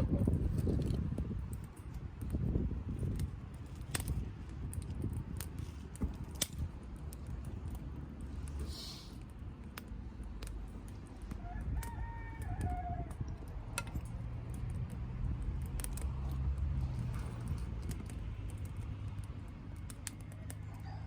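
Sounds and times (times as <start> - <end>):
low rumble of fire: 0.0 - 21.0
wood fire crackling and popping: 0.0 - 21.0.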